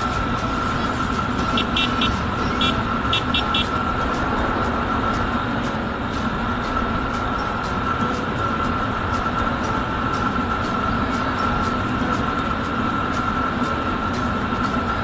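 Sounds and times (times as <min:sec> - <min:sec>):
motorcycle engine running: 0:00.0 - 0:15.0
wind and road rush: 0:00.0 - 0:15.0.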